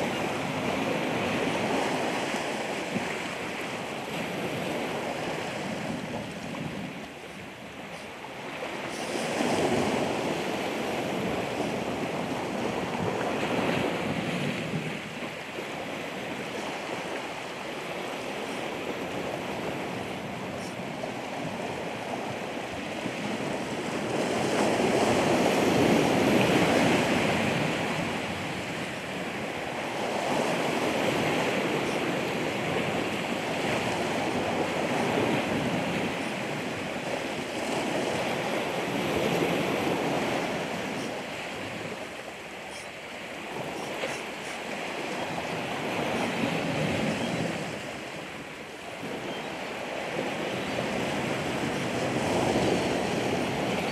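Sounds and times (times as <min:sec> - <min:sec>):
ocean surf washing in: 0:00.0 - 0:53.9.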